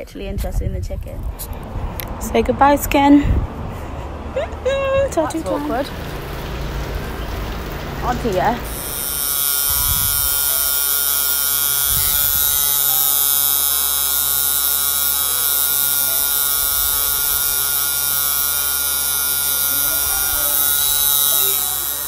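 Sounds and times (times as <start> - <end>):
tattoo machine buzzing: 1.2 - 2.2, 4.3 - 22.0.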